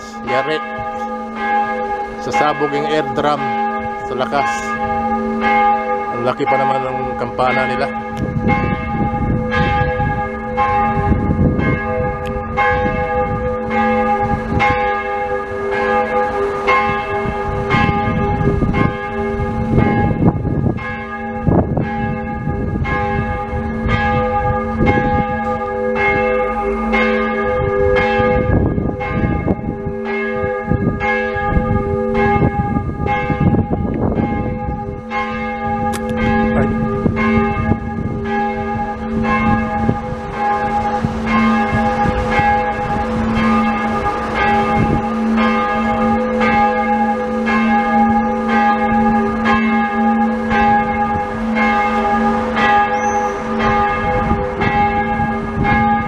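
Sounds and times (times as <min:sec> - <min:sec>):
church bell ringing: 0:00.0 - 0:56.0.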